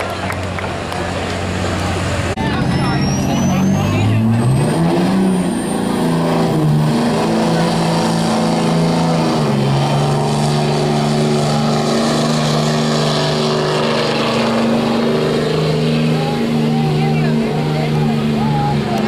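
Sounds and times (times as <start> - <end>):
truck engine at high revs: 0.0 - 19.0.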